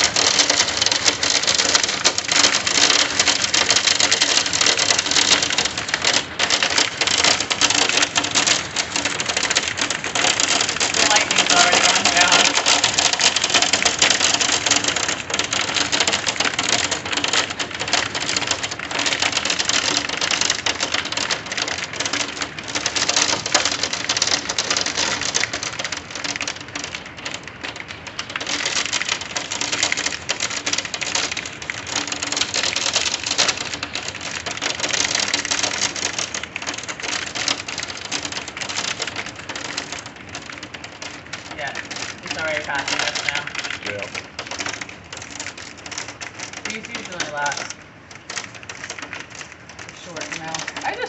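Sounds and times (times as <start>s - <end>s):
hail clattering on hard surfaces: 0.0s - 51.0s
heavy rain: 0.0s - 51.0s.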